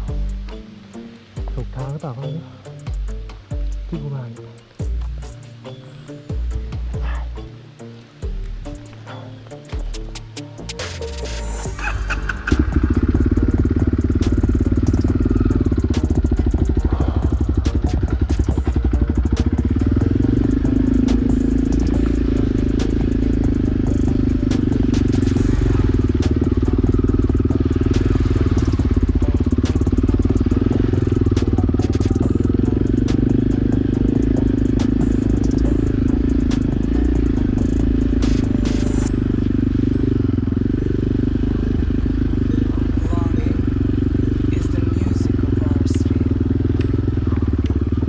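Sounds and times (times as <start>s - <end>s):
motorcycle engine running: 4.8s - 7.6s, 8.2s - 48.0s.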